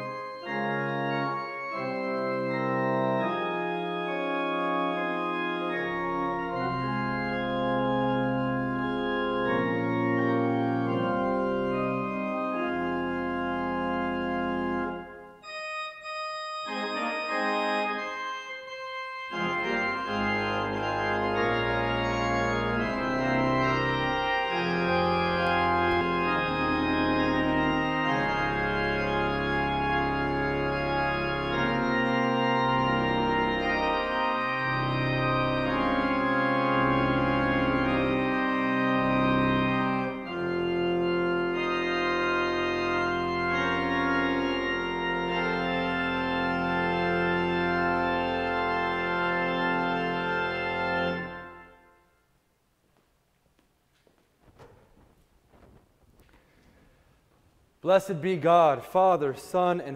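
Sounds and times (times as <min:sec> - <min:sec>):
pipe organ chords: 0:00.0 - 0:52.4, 0:57.8 - 0:59.9.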